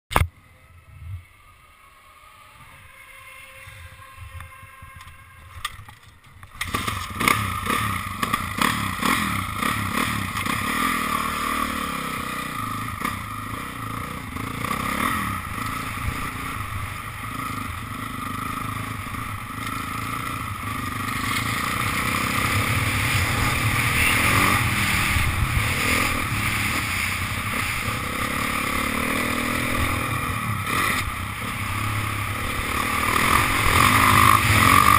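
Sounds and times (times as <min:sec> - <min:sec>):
dirt bike engine running: 0:06.5 - 0:34.9.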